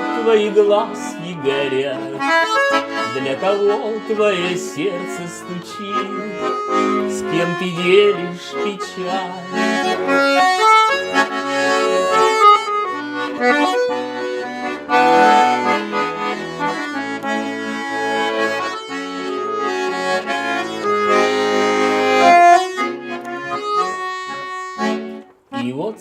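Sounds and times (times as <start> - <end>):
accordion playing: 0.0 - 26.0.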